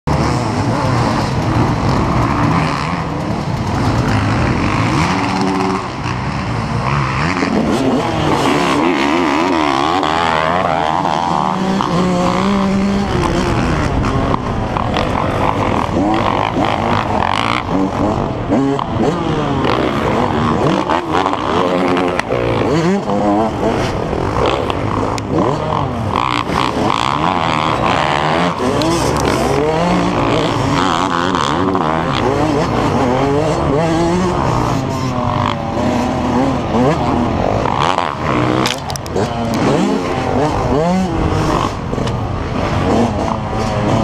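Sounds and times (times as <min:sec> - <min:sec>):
dirt bike engines revving: 0:00.0 - 0:44.0.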